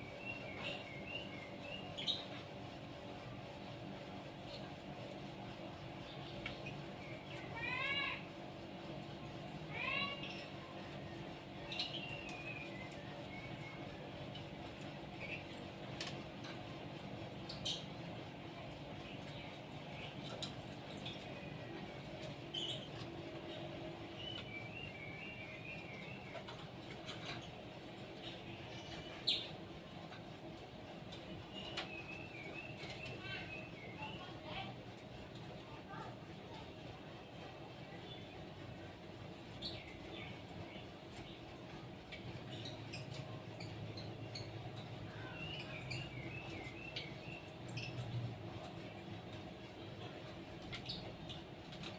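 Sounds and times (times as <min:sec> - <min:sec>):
low steady hum: 0:00.0 - 0:51.9
small birds chirping: 0:00.0 - 0:51.9.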